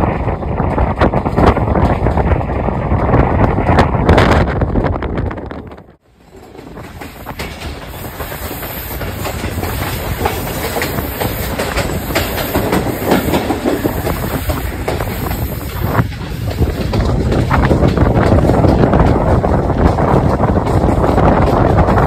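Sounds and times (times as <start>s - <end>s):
train wheels clicking over rail joints: 0.0s - 5.4s, 6.0s - 22.0s.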